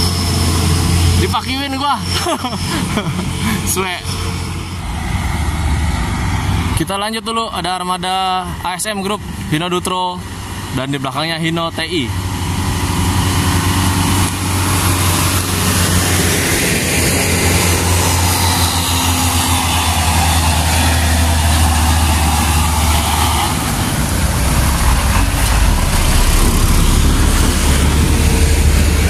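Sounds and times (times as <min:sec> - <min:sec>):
dump truck diesel engines passing: 0:00.0 - 0:29.0
road noise: 0:00.0 - 0:29.0.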